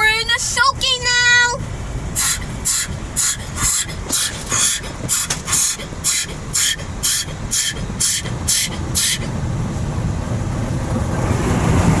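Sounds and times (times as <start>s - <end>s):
car wash water jets hissing: 0.0s - 12.0s.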